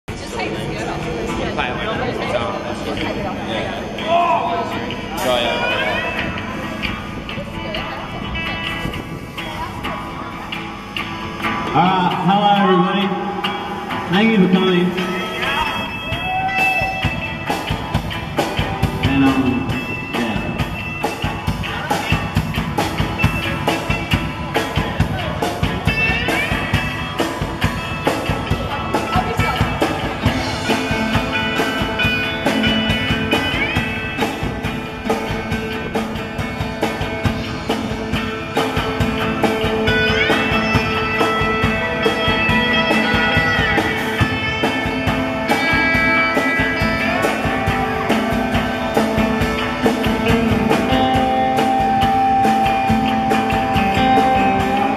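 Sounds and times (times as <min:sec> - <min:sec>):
electric guitar with sliding notes: 0:00.1 - 0:54.9
steady drum beat: 0:04.8 - 0:54.9.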